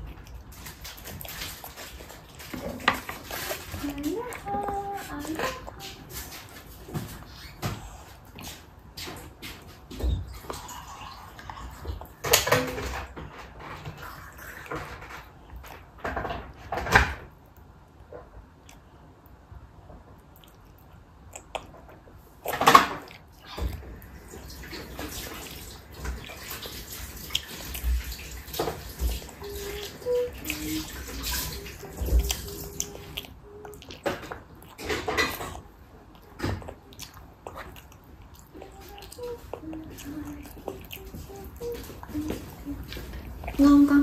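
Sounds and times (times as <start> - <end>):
toddler chewing and smacking: 0.0 - 44.0.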